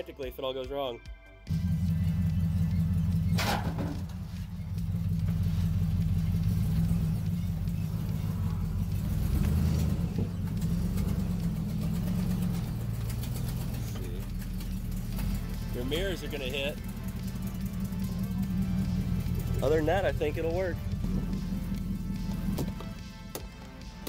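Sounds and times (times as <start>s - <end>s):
truck engine rumbling at low revs: 1.5s - 24.0s.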